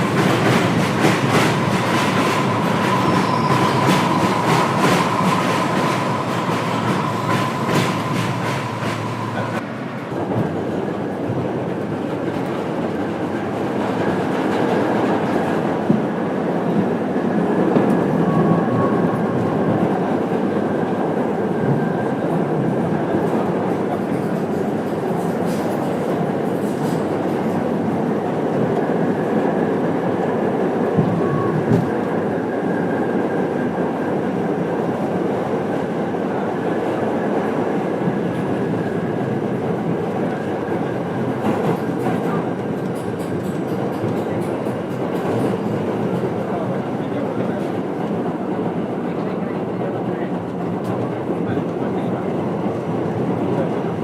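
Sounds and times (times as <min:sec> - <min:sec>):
subway train rumble and wheel clatter: 0:00.0 - 0:54.0.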